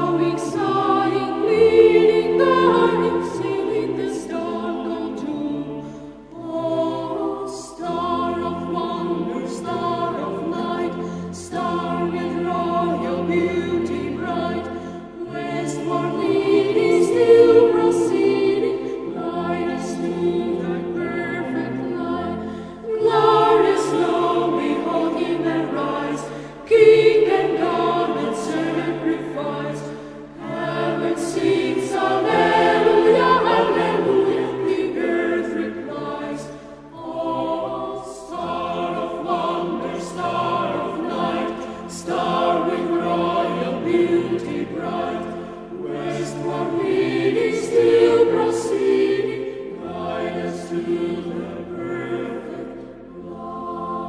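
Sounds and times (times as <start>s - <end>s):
choir singing slow chords: 0.0s - 54.0s.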